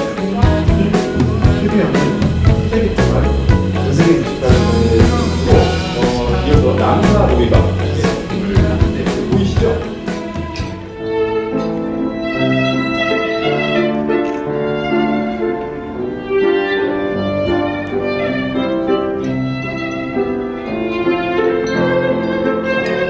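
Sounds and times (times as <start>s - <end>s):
grand piano accompaniment: 0.0s - 23.0s
violin playing classical melody: 3.7s - 23.0s.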